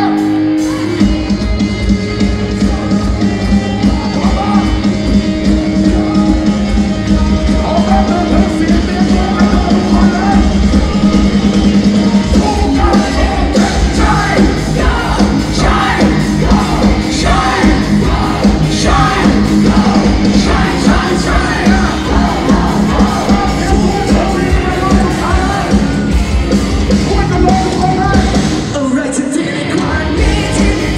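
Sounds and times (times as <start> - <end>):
man singing and shouting: 0.0 - 26.1, 26.8 - 30.9
live rock band playing: 0.0 - 30.9.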